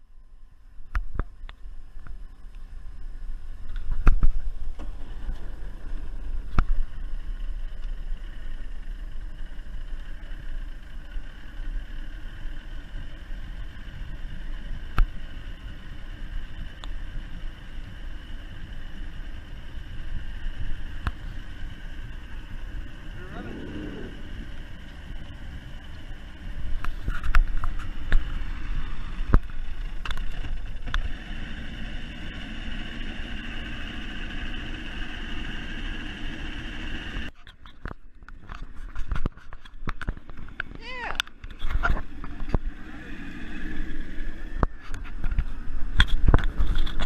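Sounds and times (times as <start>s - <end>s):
outboard motor running: 0.0s - 47.0s.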